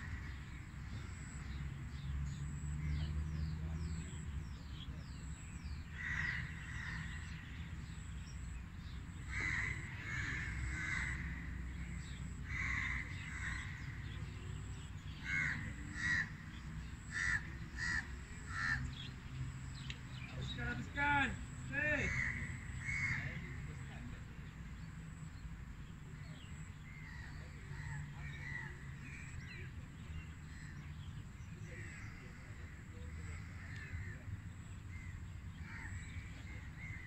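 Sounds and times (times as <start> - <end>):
birds calling: 0.0 - 37.0.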